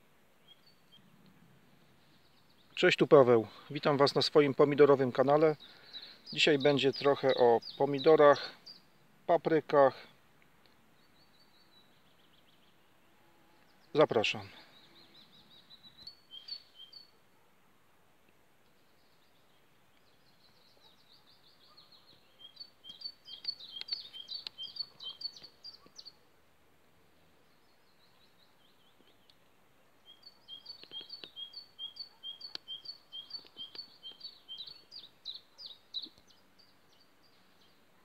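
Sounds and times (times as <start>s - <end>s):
small songbird singing: 0.4s - 1.3s, 2.0s - 17.5s, 18.6s - 26.4s, 27.3s - 38.0s.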